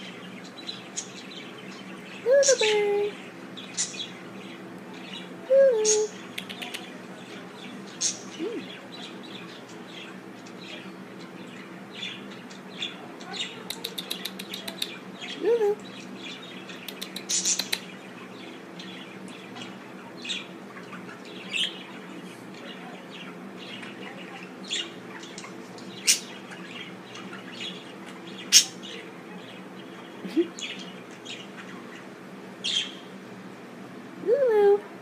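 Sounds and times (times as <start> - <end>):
budgerigars chirping and squawking: 0.0 - 33.2
faint steady hum: 0.0 - 35.0.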